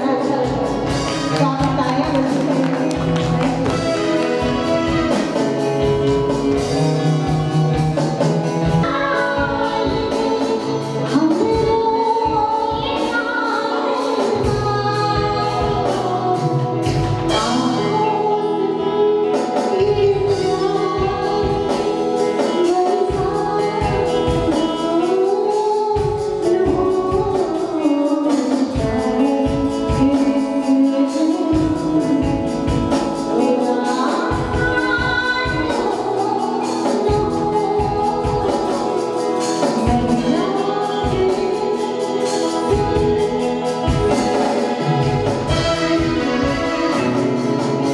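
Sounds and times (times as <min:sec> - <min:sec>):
woman singing into microphone: 0:00.0 - 0:06.8, 0:08.4 - 0:47.9
live band with drums and keyboards: 0:00.0 - 0:47.9.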